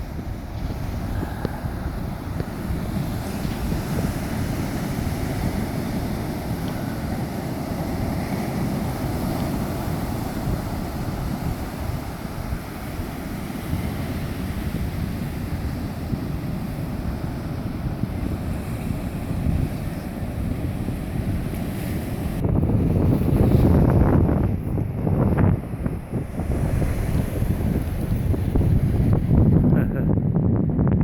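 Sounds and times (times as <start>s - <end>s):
ocean surf: 0.0s - 30.0s
wind buffeting microphone: 0.0s - 31.0s.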